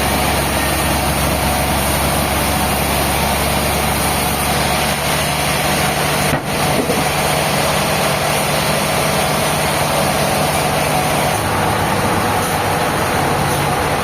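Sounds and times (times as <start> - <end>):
engine drone: 0.0 - 14.0
noisy machinery whine: 0.0 - 14.0.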